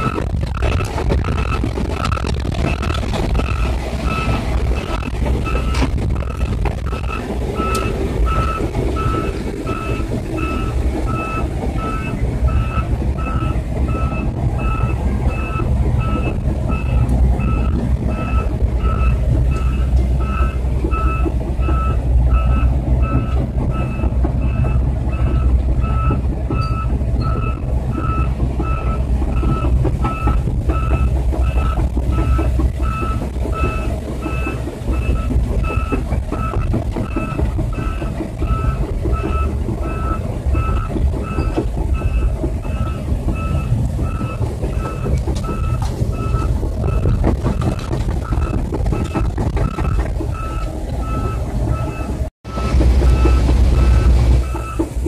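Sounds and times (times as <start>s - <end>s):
diesel engine and tracks drone: 0.0s - 55.0s
excavator travel alarm beeping: 0.0s - 55.0s.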